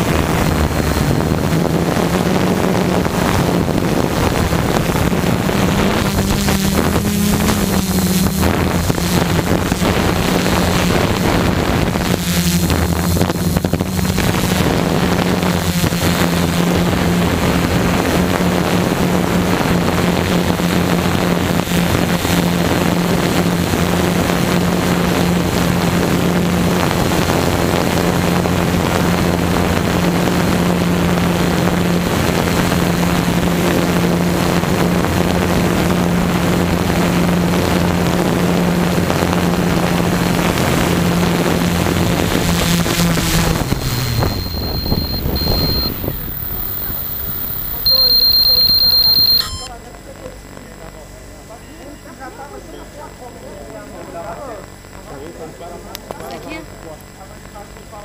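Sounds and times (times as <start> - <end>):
wind on microphone: 0.0 - 47.9
drone motors humming: 0.0 - 49.7.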